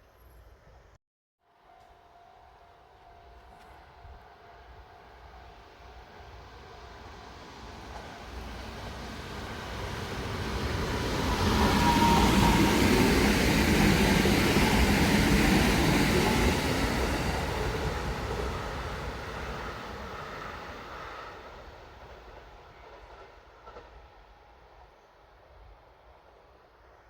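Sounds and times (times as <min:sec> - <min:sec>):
electric train passing: 0:01.5 - 0:24.9.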